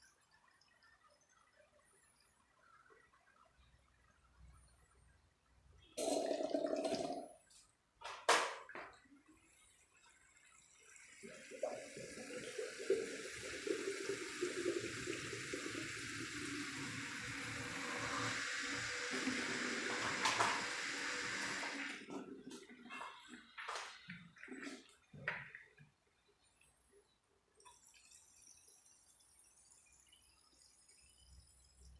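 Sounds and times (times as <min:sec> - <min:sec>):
water gurgling through cooling loop: 0:00.0 - 0:07.6, 0:08.8 - 0:26.8, 0:27.6 - 0:31.9.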